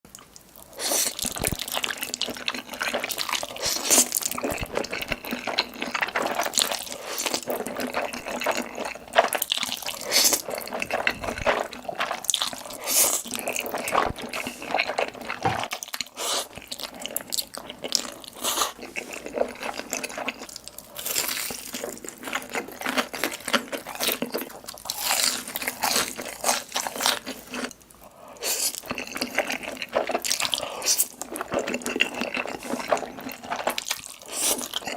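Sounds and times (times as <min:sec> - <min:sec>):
wet chewing and crunching: 0:00.1 - 0:34.9.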